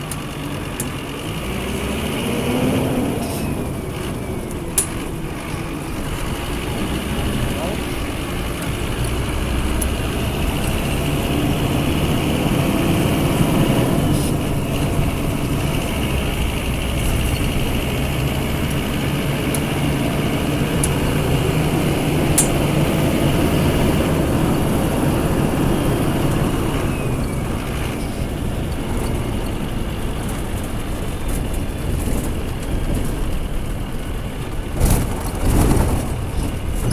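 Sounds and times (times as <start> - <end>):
diesel bus engine running: 0.0 - 36.9.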